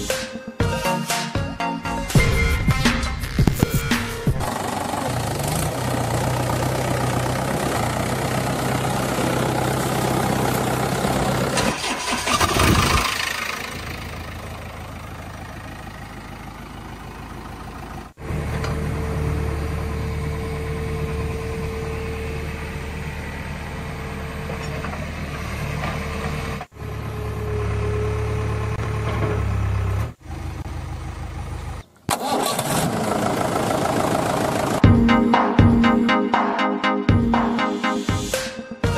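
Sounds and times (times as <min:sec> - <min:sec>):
tractor engine idling: 0:02.1 - 0:35.0.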